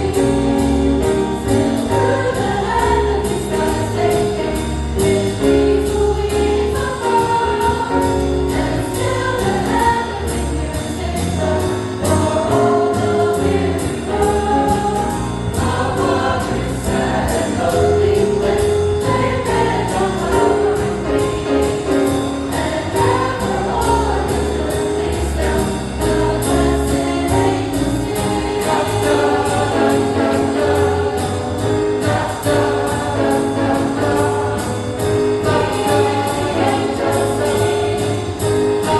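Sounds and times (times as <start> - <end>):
choir singing a jazzy song: 0.0 - 38.9
instrumental accompaniment: 0.0 - 38.9.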